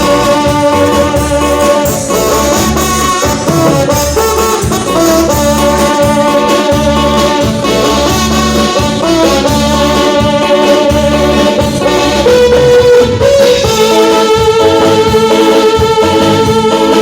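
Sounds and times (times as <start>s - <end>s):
steady bass beat: 0.0s - 15.2s
horns holding long notes: 0.0s - 17.0s.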